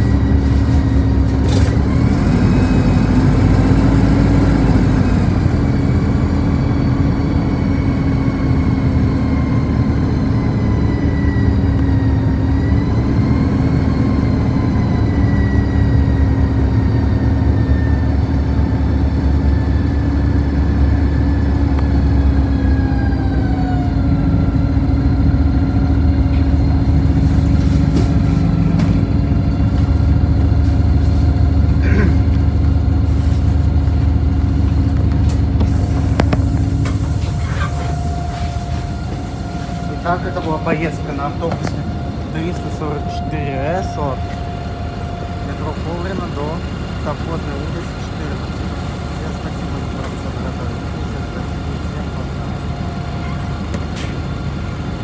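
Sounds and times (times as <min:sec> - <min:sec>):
bus engine hum and whine: 0:00.0 - 0:55.0.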